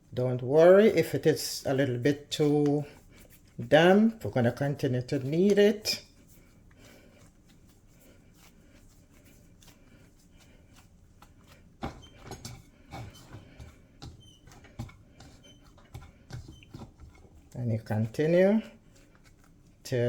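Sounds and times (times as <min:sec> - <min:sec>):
hands kneading dough: 0:00.0 - 0:20.0.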